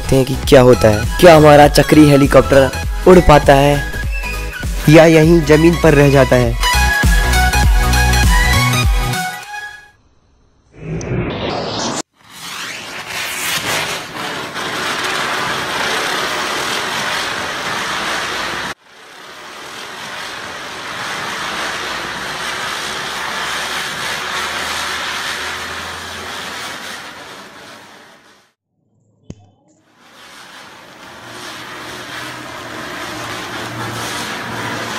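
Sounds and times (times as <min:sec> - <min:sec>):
spinning firework hissing: 0:00.0 - 0:09.3, 0:10.7 - 0:28.6, 0:29.8 - 0:34.9.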